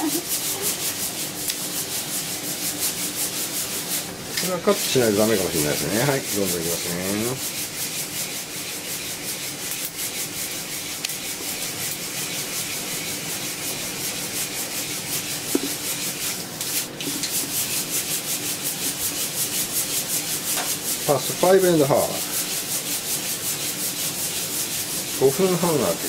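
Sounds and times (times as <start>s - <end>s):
coffee beans rattling in roaster: 0.0s - 26.0s.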